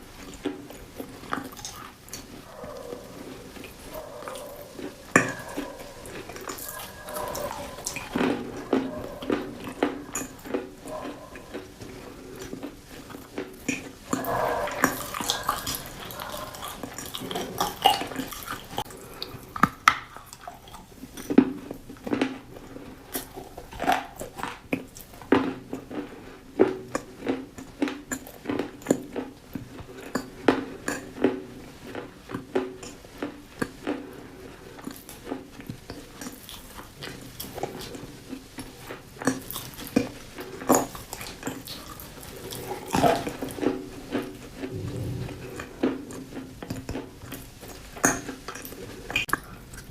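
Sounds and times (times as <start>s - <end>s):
crunching and chewing crisp food: 0.0s - 49.9s.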